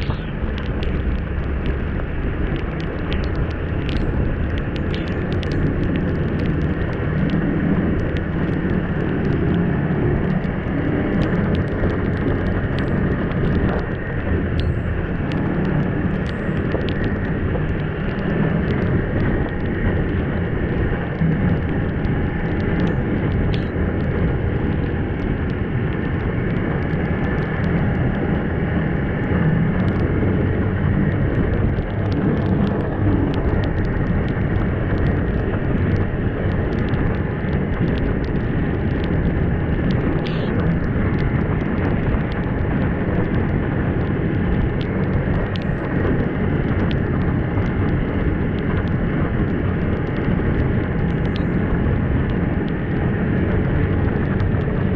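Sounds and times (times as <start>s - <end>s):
faint clicks: 0.0s - 28.5s, 29.3s - 54.8s.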